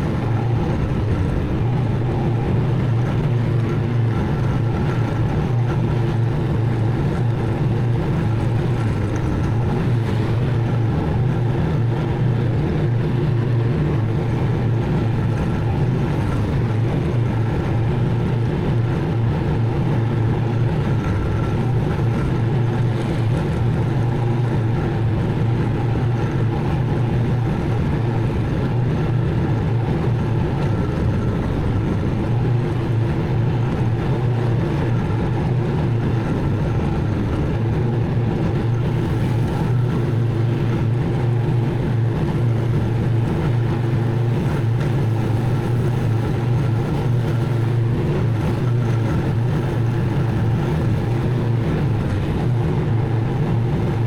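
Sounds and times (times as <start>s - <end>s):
riding mower engine droning: 0.0s - 54.0s.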